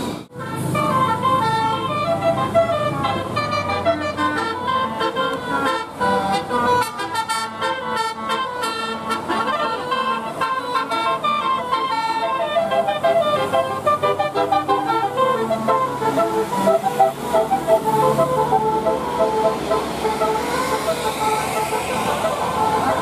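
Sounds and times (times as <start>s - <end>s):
musical air horn melody: 0.3s - 23.0s.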